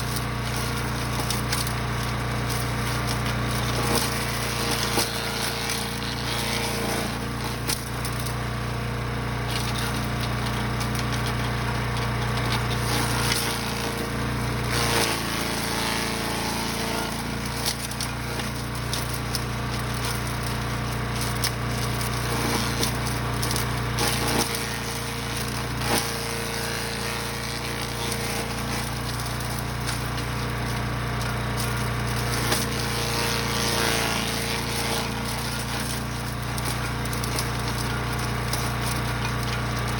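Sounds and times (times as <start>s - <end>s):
wood cracking and snapping: 0.0s - 8.6s, 9.2s - 39.9s
chipper engine running under load: 0.0s - 39.9s.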